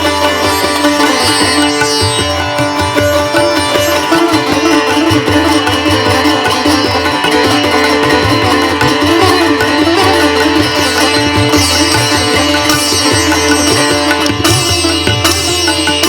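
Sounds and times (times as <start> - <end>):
hand drums: 0.0 - 16.0
plucked string instrument: 0.0 - 16.0.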